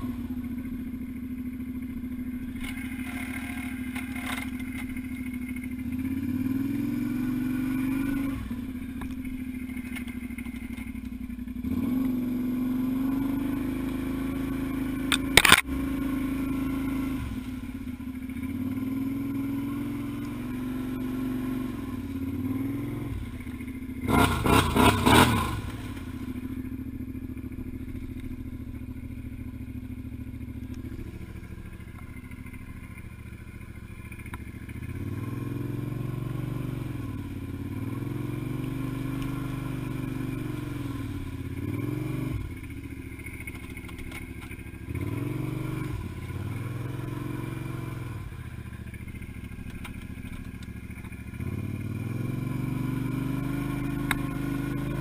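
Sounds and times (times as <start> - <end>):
quad engine revving: 0.0 - 1.0, 2.4 - 10.6, 11.6 - 32.8, 34.0 - 55.0.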